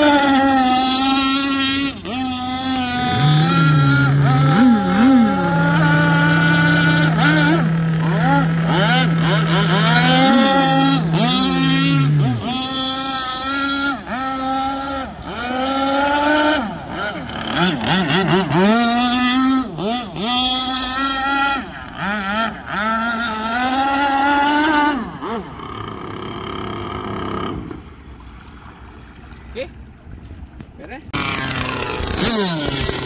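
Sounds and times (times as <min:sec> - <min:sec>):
model boat engine revving: 0:00.0 - 0:28.3, 0:31.1 - 0:33.0.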